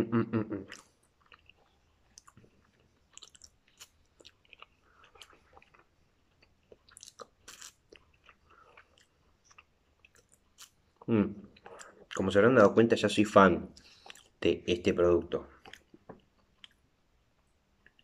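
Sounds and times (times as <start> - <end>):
man chewing noodles: 0.7 - 12.2, 13.8 - 14.4, 15.6 - 18.0.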